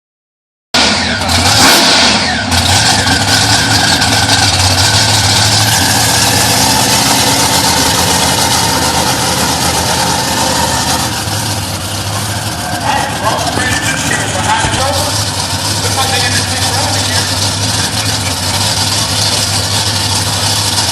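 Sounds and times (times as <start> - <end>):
loud vehicle engine running: 0.8 - 20.9.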